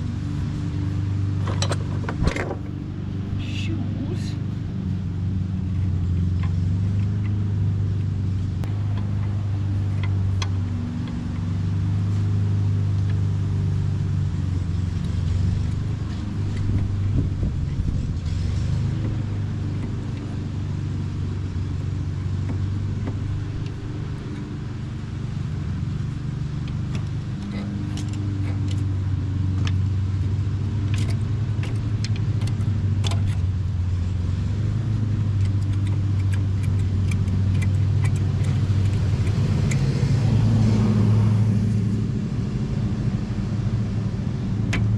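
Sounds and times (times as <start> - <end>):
low mechanical hum: 0.0 - 44.9.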